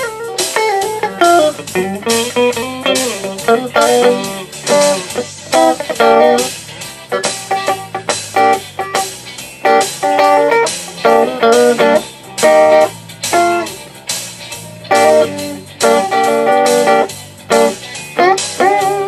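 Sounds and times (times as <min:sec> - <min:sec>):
clean electric guitar: 0:00.0 - 0:19.0.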